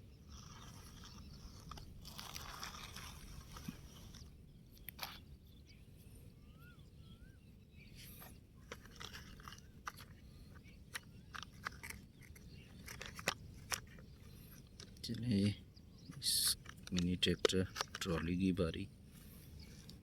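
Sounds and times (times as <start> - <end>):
plastic toy vehicles on gritty ground: 0.0 - 6.0, 7.9 - 20.0
faint bird chirps: 0.0 - 20.0.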